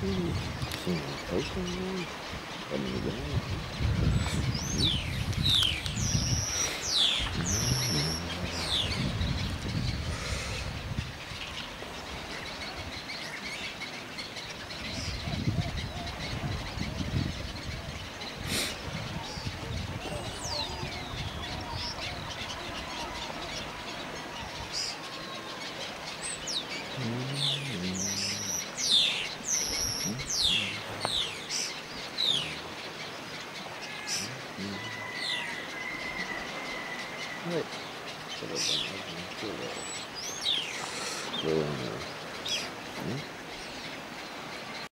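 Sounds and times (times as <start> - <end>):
gull chicks peeping: 0.0 - 44.0.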